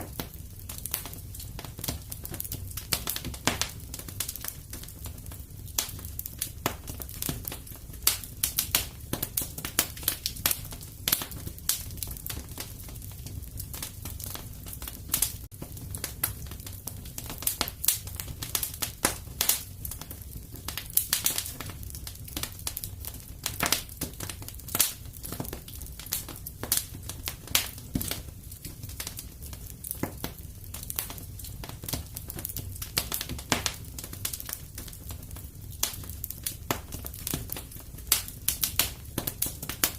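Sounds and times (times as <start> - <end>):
sharp snaps and pops: 0.0 - 39.9
wood fire crackling: 0.0 - 39.9.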